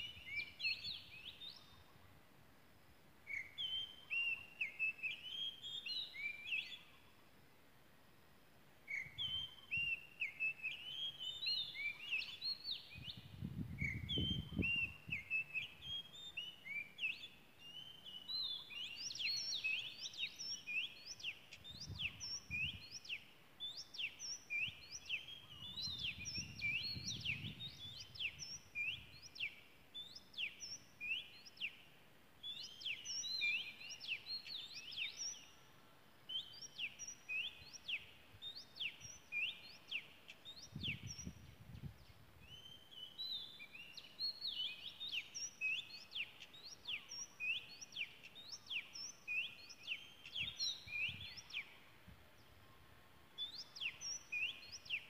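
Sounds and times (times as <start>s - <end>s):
bird singing whistled notes: 0.0s - 2.0s, 3.2s - 7.2s, 8.8s - 52.5s, 53.4s - 55.0s.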